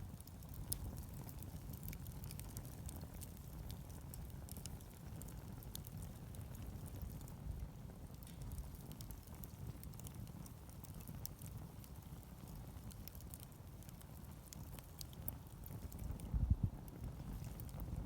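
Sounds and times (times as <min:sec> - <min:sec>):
campfire crackling: 0:00.0 - 0:18.0
fire low rumble: 0:00.0 - 0:18.0.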